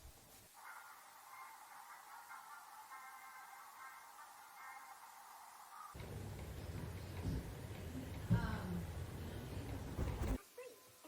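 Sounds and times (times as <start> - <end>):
muffled television audio: 0.0 - 11.0.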